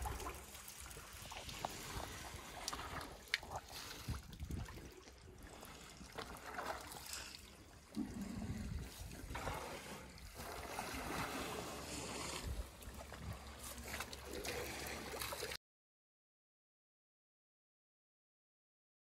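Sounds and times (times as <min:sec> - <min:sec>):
water trickling and splashing: 0:00.0 - 0:15.6.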